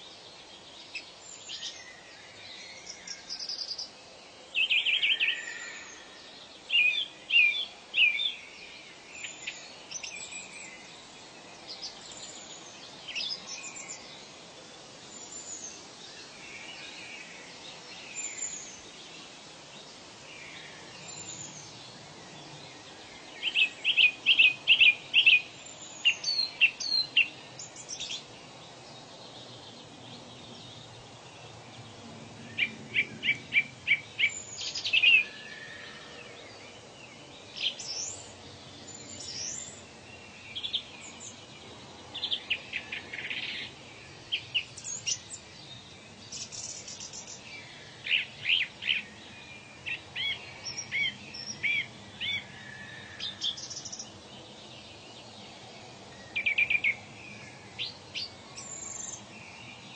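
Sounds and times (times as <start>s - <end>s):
faint hiss: 0.0s - 59.9s
wild birds singing: 0.0s - 59.9s.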